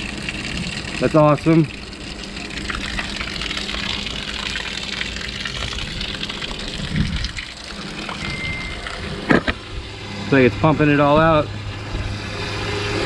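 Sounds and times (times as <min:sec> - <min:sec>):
faint pump hum: 0:00.0 - 0:13.0.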